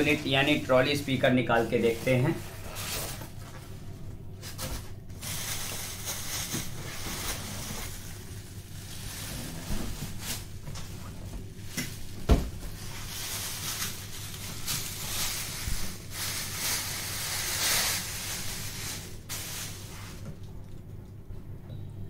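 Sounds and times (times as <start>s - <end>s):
plastic bag rustling: 0.0s - 20.4s
steady low hum: 0.0s - 22.0s.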